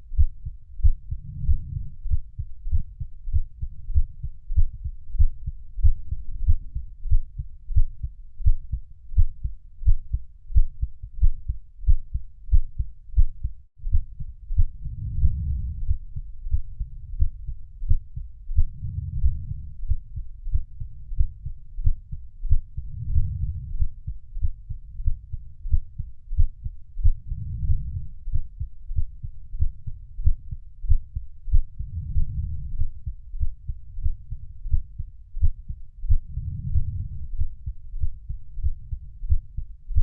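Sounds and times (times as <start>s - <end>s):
heartbeat thumps: 0.1s - 40.0s.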